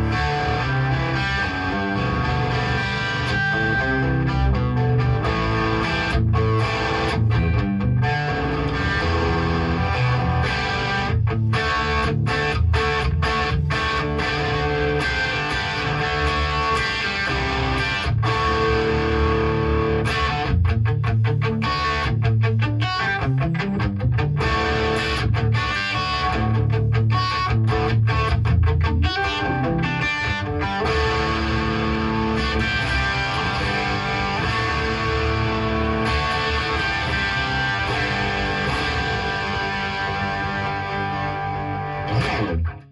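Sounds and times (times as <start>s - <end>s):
overdriven electric guitar riffs: 0.0s - 42.9s.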